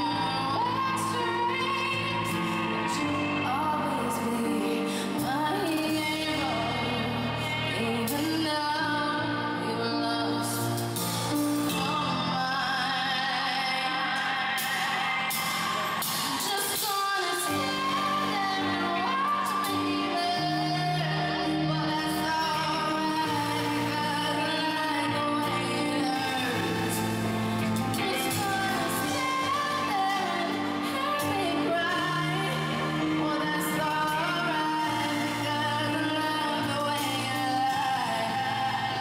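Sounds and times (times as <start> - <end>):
woman singing into microphone: 0.0 - 39.0.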